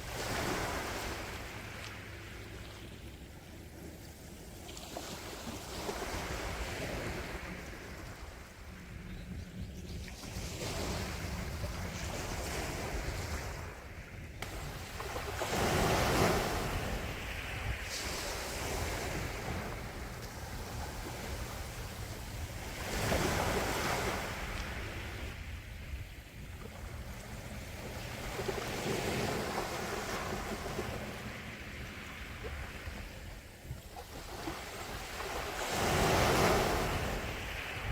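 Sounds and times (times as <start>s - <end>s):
sea waves washing ashore: 0.0s - 9.1s, 9.9s - 37.9s
low rumble of sea: 0.0s - 37.9s.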